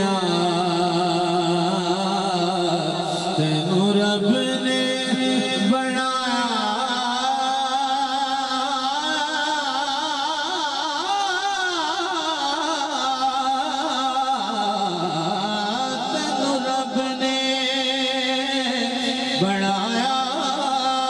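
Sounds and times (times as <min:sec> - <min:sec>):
man singing over loudspeaker: 0:00.0 - 0:21.0.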